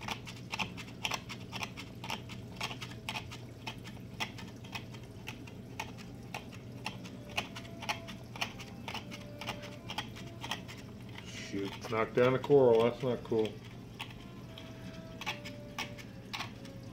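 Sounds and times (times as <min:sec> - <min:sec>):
algae scraper clicking on glass: 0:00.0 - 0:16.9.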